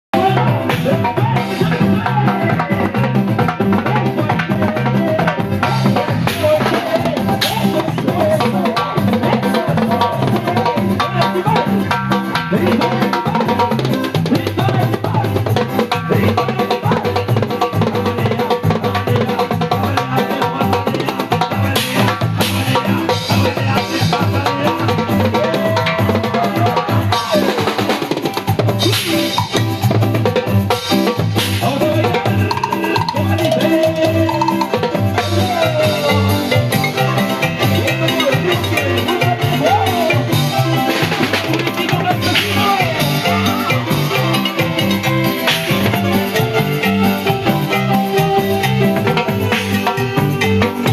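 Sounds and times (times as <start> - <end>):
band playing salsa music: 0.1 - 50.9
bass line: 0.1 - 50.9
drum kit beat: 0.1 - 50.9.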